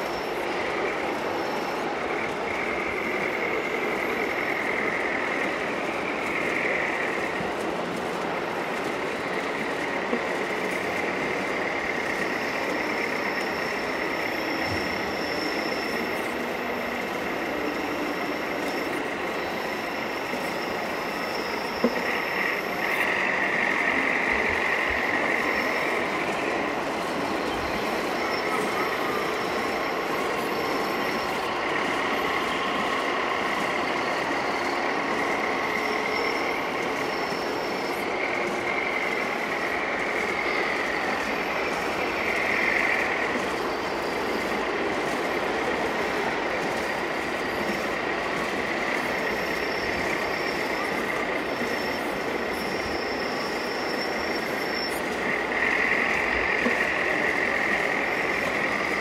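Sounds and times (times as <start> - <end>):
continuous rushing noise: 0.0 - 59.0
high whine of electric motors: 0.0 - 59.0.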